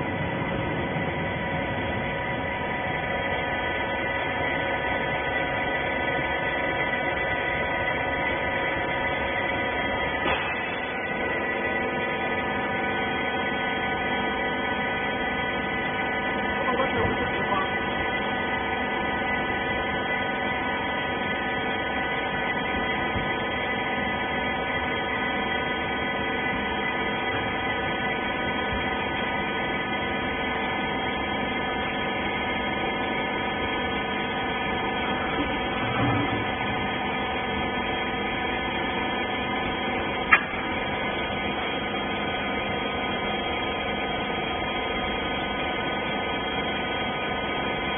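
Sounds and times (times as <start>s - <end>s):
electric motor and hydraulic pump hum: 0.0s - 47.9s.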